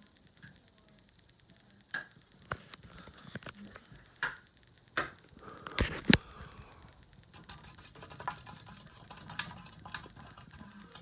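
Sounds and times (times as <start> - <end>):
ceiling fan whirring: 0.0 - 11.0.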